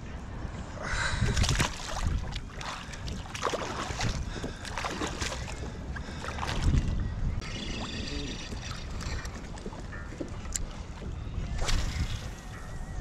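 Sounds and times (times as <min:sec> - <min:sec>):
low wind rumble on microphone: 0:00.0 - 0:13.0
water splashing and slapping: 0:01.2 - 0:12.5.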